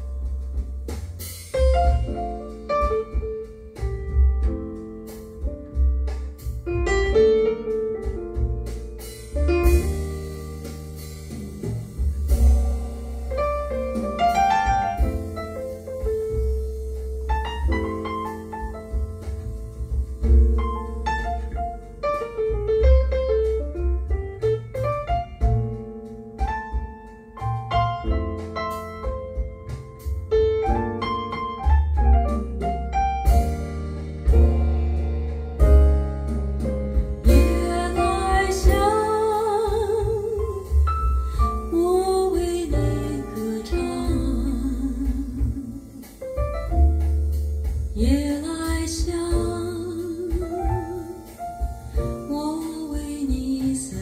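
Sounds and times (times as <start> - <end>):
piano music over loudspeakers: 1.6 - 54.0.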